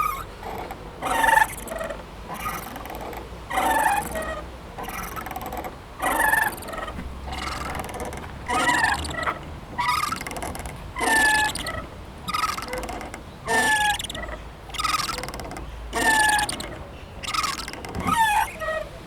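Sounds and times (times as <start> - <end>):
swing creaking: 0.0 - 19.0.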